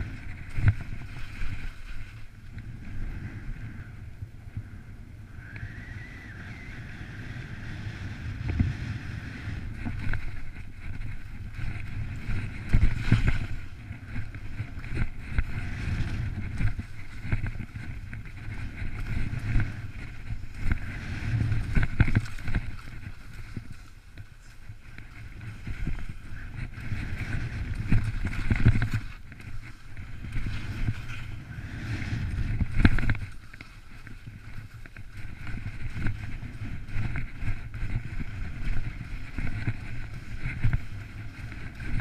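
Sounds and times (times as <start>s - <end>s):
skis scraping over snow: 0.0s - 4.6s, 5.6s - 42.0s
wind buffeting microphone: 0.0s - 42.0s.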